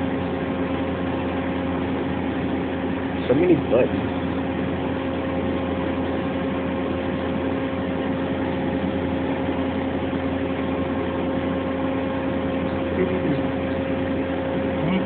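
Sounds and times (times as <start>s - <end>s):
machine equipment humming: 0.0s - 15.0s.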